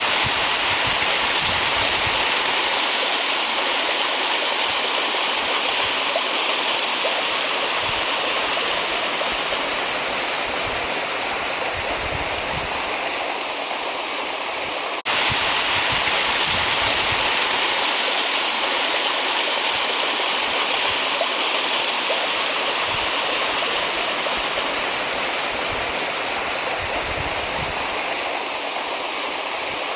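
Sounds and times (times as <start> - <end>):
waterfall rushing and splashing: 0.0 - 29.9.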